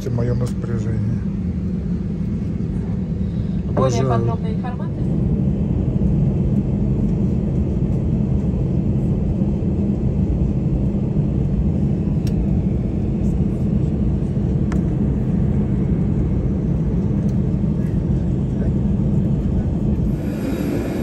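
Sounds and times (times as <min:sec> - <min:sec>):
jet airliner cabin rumble: 0:00.0 - 0:21.0.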